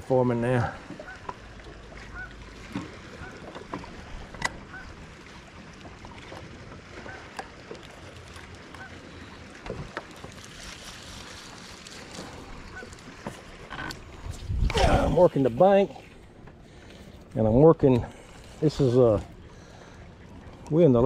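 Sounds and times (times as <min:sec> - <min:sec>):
light wind: 0:00.0 - 0:21.0
water lapping at a hull: 0:00.0 - 0:21.0.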